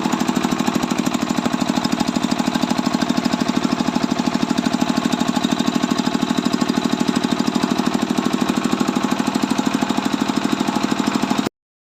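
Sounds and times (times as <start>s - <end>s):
diesel engine chugging: 0.0s - 11.5s
rice polisher whirring: 0.0s - 11.5s.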